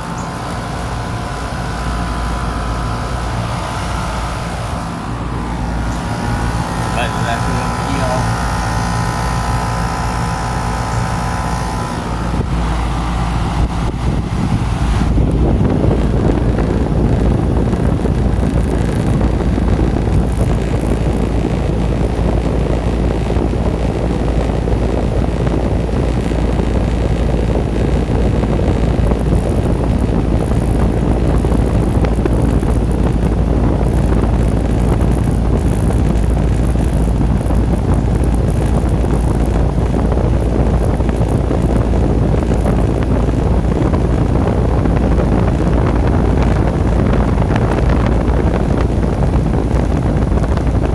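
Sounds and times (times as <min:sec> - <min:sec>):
deep low hum: 0:00.0 - 0:50.9
heat pump fan air rushing: 0:00.0 - 0:50.9.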